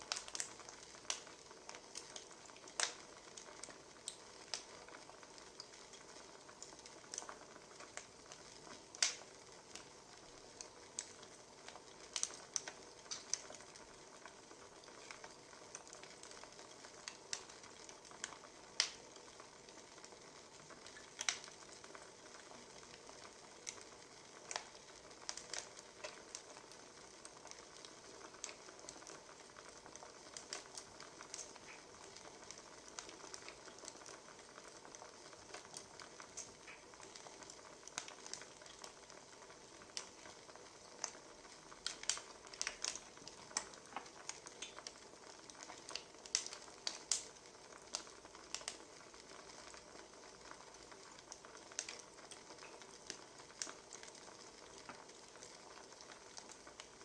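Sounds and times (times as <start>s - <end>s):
faint wood fire crackling: 0.0s - 57.0s.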